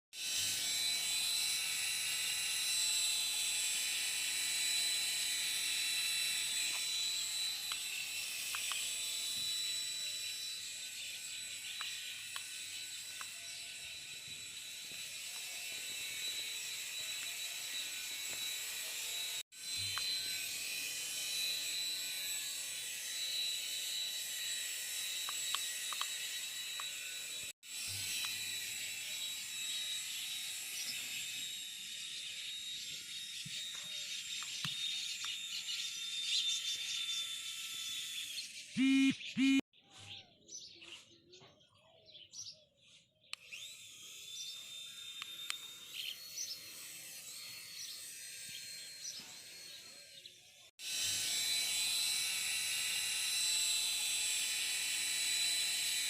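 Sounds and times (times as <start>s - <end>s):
toy helicopter motor whine: 0.2s - 40.7s, 42.1s - 56.0s.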